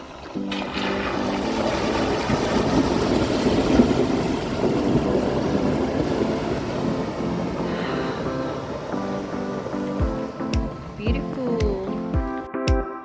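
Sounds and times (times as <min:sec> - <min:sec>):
water rushing against vehicle: 0:00.0 - 0:12.3.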